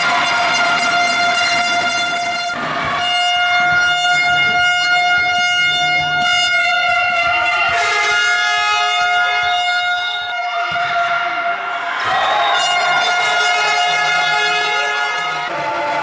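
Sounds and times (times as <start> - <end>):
air horn high note: 0.0 - 11.6, 12.2 - 15.6
lower air horn: 0.0 - 15.9.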